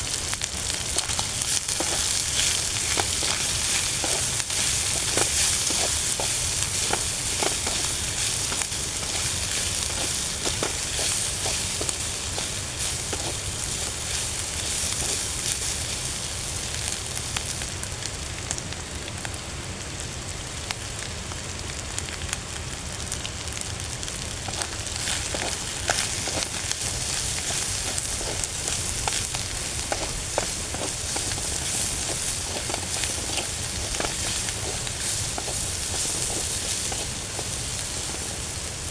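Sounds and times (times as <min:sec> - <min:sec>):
food frying with sizzle: 0:00.0 - 0:38.9.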